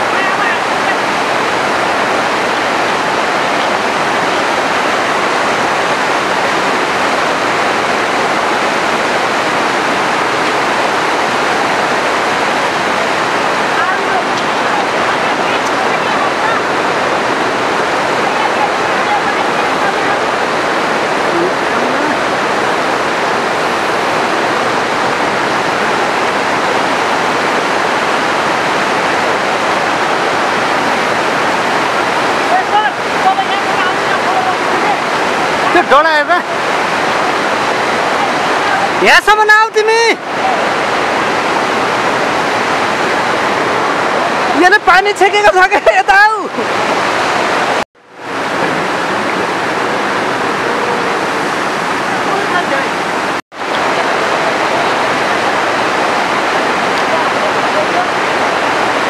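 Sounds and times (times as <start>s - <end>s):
river roaring over boulders: 0.0s - 59.0s.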